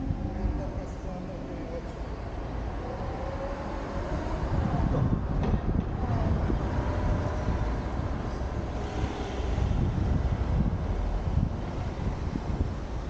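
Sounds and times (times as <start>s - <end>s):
road and engine rumble: 0.0s - 13.0s
wind on microphone: 2.5s - 13.0s.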